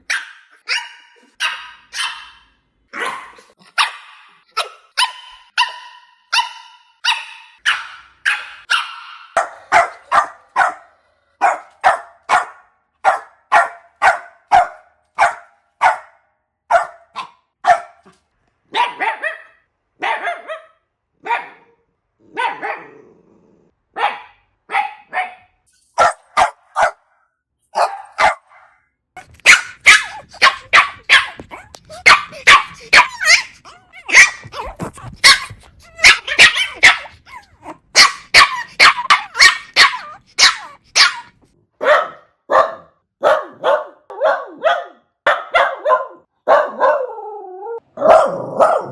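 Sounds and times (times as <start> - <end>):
puppies barking: 0.0 - 21.6, 24.0 - 27.0, 27.8 - 28.6, 29.4 - 47.2, 48.0 - 48.9.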